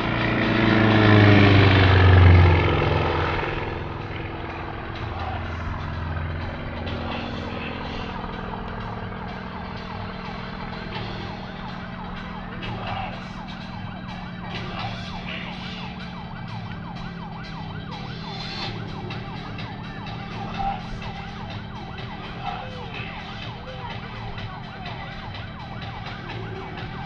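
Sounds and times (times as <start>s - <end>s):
distant aircraft engine drone: 0.0s - 27.0s
siren yelping: 0.0s - 27.0s.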